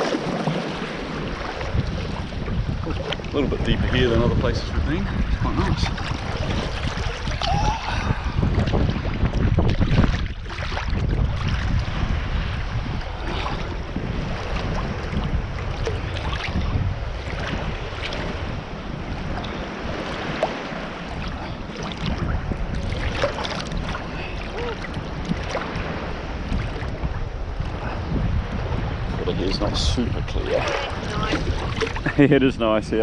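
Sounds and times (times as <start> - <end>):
sea water sloshing and splashing: 0.0 - 33.0
wind rumble on microphone: 0.0 - 33.0.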